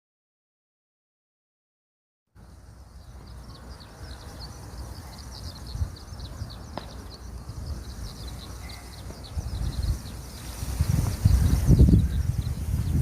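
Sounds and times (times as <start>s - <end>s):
small birds chirping: 2.4s - 13.0s
steady low rumble: 2.4s - 13.0s.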